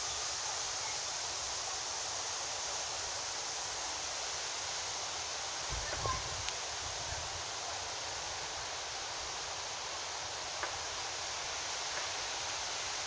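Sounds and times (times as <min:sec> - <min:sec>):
strong wind through leaves: 0:00.0 - 0:13.0.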